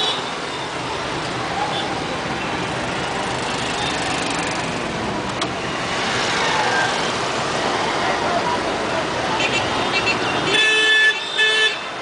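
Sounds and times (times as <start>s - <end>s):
car engine and road noise: 0.0s - 12.0s
motorcycles passing: 0.3s - 10.5s.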